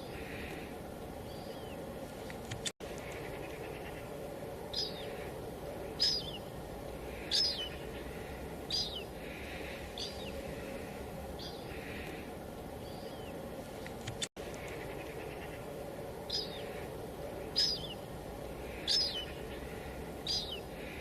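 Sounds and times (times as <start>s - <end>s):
light drizzle hiss: 0.0s - 21.0s.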